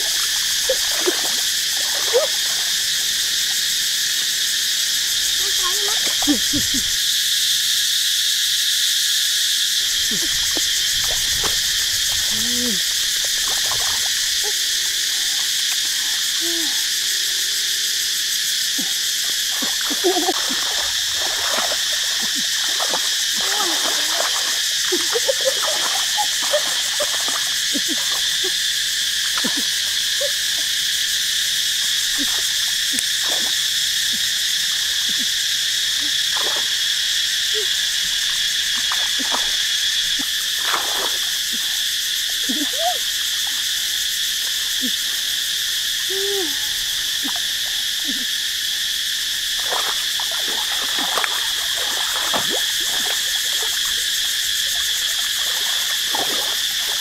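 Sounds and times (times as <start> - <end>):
frog calls: 0.0 - 7.4, 9.6 - 57.0
insects chorus: 0.0 - 57.0.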